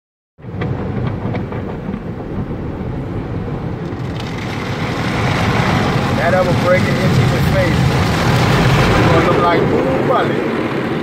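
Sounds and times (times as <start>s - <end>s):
water spraying on car: 0.5s - 11.0s.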